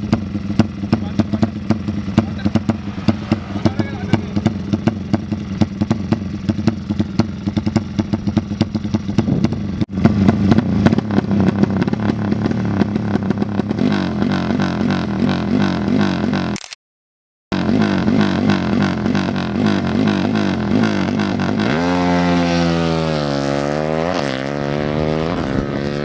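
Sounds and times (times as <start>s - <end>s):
motorcycle engine revving: 0.0s - 16.6s, 17.5s - 26.0s.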